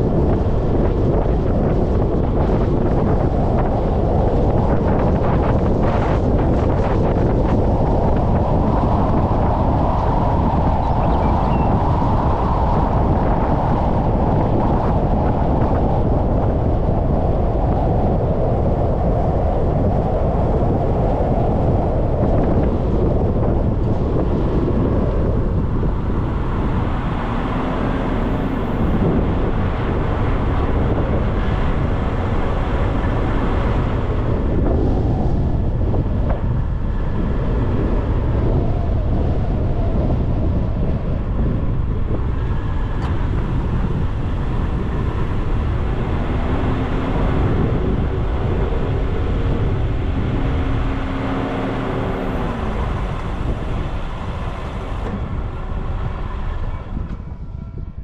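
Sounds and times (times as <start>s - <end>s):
road noise: 0.0s - 58.0s
wind rushing over microphone: 0.0s - 58.0s.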